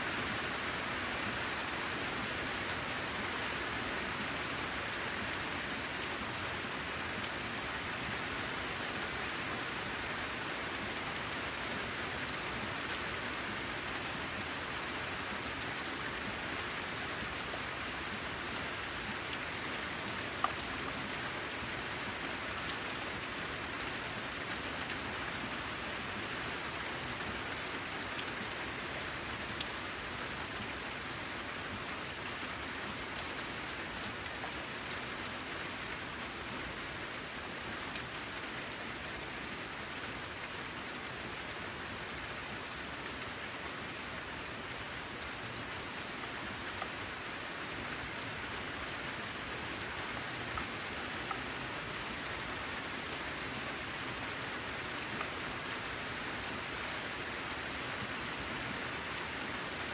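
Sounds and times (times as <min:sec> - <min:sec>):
rain on a metal roof: 0:00.0 - 0:59.9.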